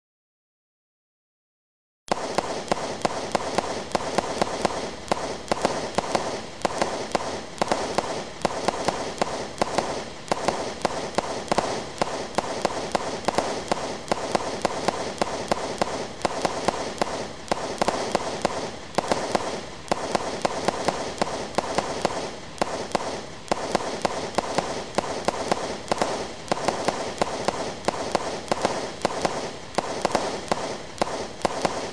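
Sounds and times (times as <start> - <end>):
fireworks bursting in air: 2.1 - 31.9
fireworks firing in volley: 2.1 - 31.9.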